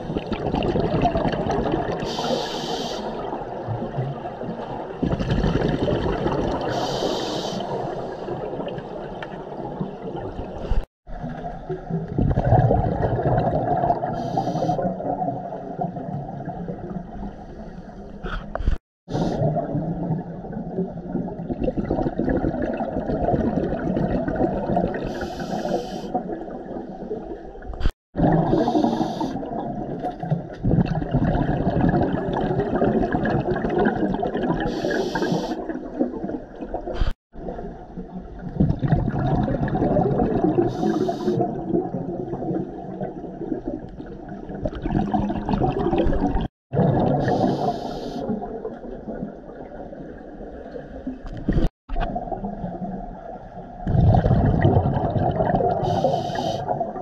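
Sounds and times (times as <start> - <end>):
scuba exhalation bubbles gurgling: 0.0 - 17.4, 19.1 - 27.5, 28.2 - 57.0.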